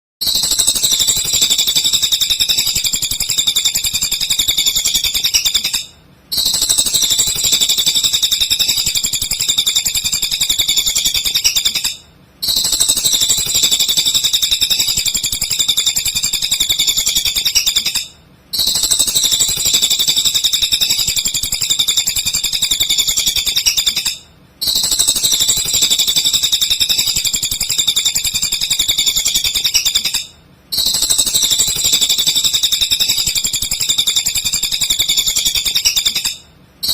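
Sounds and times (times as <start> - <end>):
bird chattering trill: 0.2 - 36.9.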